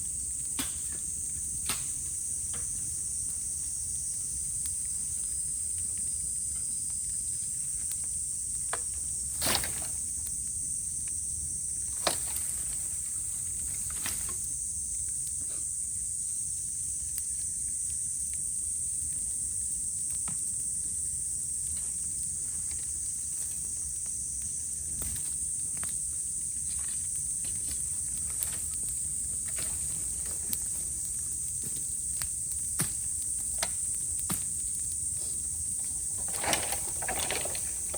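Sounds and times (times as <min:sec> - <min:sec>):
bamboo cracking in bonfire: 0:00.0 - 0:37.9
cicadas calling: 0:00.0 - 0:37.9.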